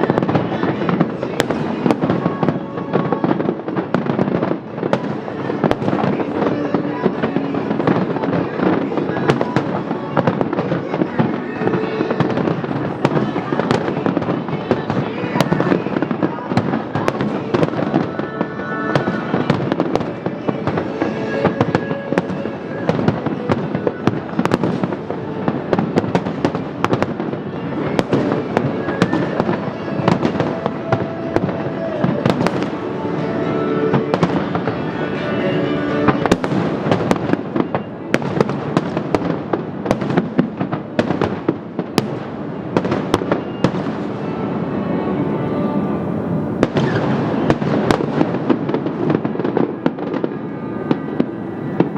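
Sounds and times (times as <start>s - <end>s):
fireworks bangs and crackles: 0.0s - 51.9s
music: 0.0s - 51.9s.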